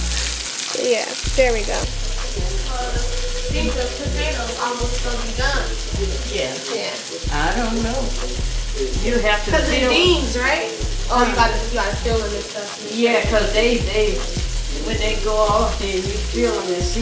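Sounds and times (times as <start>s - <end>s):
beat music with deep bass: 0.0s - 17.0s
steady hiss: 0.0s - 17.0s.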